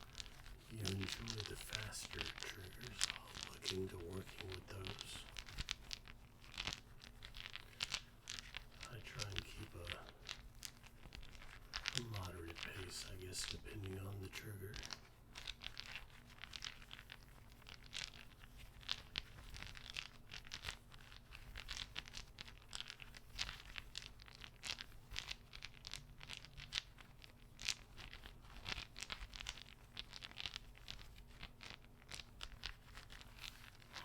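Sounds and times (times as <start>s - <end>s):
small object clicking and crackling: 0.0s - 34.0s.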